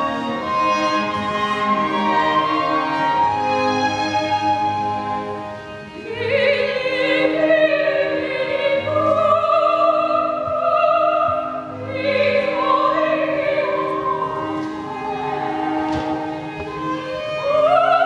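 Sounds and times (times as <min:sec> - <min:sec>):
opera singer singing: 0:00.0 - 0:05.0, 0:05.9 - 0:18.0
instrumental accompaniment: 0:00.0 - 0:18.0.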